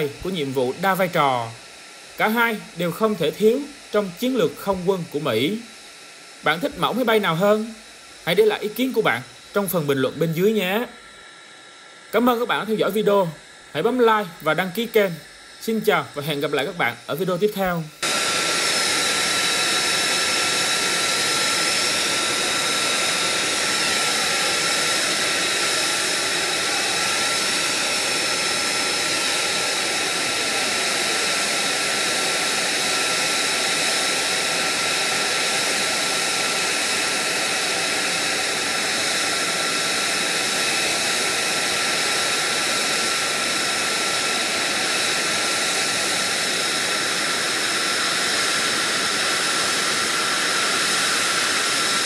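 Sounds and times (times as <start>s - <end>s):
jet engine idling: 0.0s - 52.0s.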